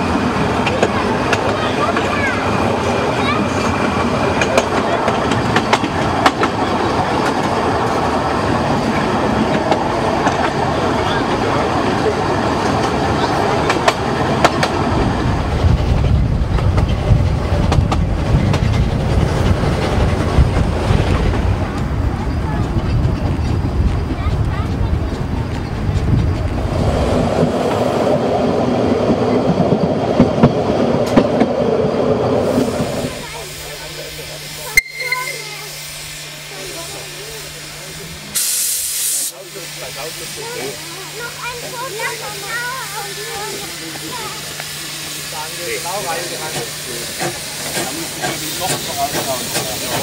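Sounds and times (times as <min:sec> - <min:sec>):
wheels clacking on rails: 0:00.0 - 0:38.4, 0:40.2 - 0:50.0
train running noise: 0:00.0 - 0:50.0.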